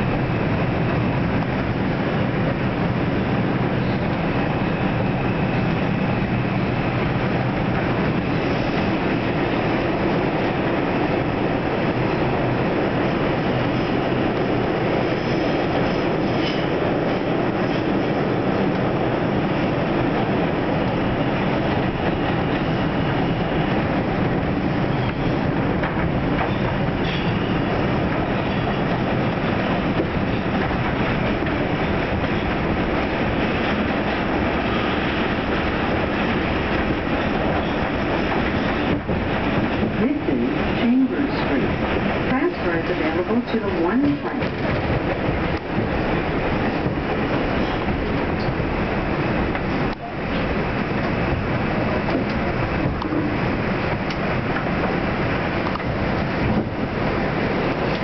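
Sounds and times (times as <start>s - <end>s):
train wheels roaring on rail: 0.0s - 58.0s.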